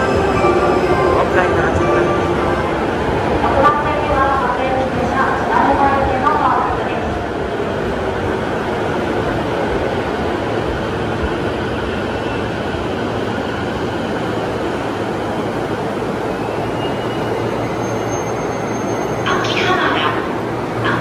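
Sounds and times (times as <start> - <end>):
faint train whine: 0.0 - 21.0
train wheels rumbling: 0.0 - 21.0.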